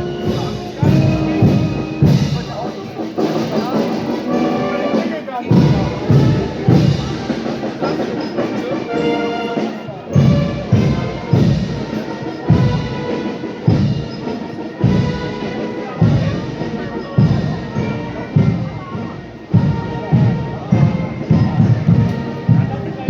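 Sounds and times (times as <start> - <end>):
brass notes: 0.0 - 23.0.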